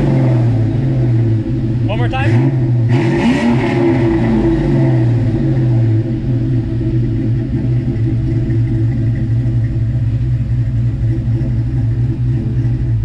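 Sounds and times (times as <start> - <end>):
car engine idling unevenly: 0.0 - 13.0.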